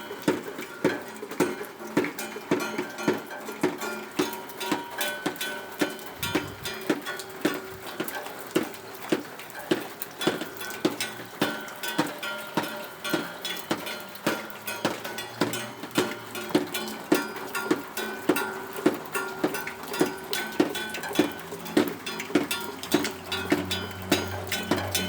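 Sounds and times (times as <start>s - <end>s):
plucked string instrument strumming: 0.0s - 8.7s, 9.7s - 25.0s.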